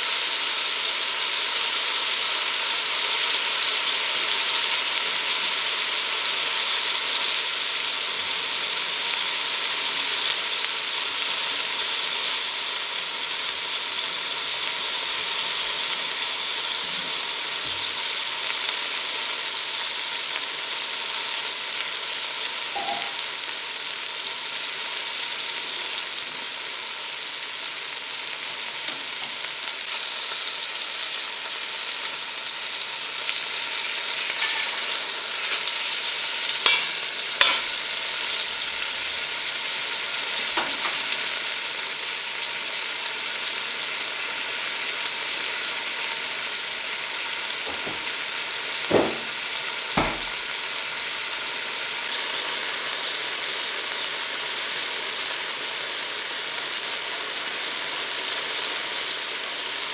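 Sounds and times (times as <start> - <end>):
food sizzling in butter: 0.0 - 59.9.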